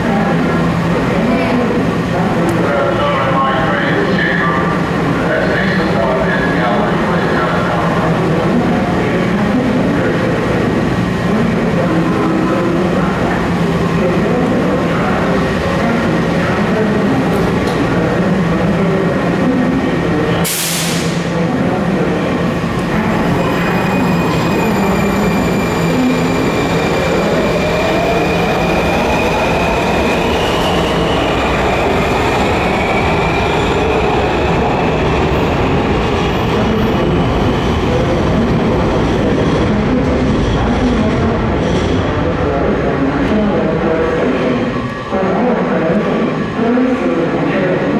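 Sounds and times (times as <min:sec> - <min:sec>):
subway car equipment humming: 0:00.0 - 0:47.9.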